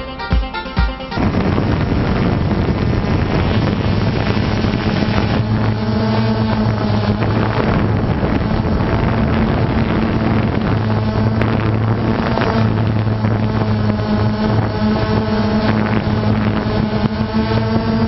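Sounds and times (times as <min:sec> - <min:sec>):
drone propellers humming: 0:01.1 - 0:18.0
wind on microphone: 0:01.2 - 0:18.0.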